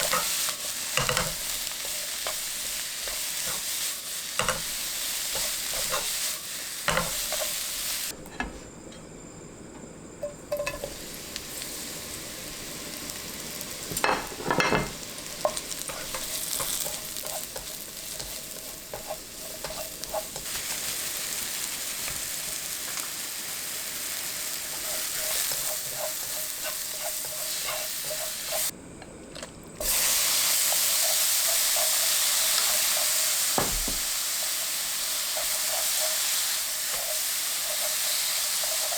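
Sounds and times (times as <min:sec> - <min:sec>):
food sizzling in oil: 0:00.0 - 0:08.2, 0:10.2 - 0:28.7, 0:29.8 - 0:38.9.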